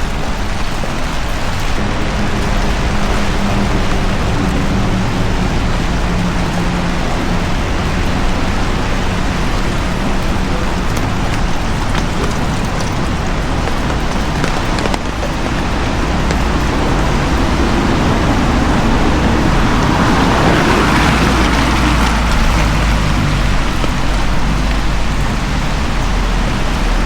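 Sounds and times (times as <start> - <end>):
heavy rain falling: 0.0 - 27.0
vehicle engine hum: 0.0 - 27.0.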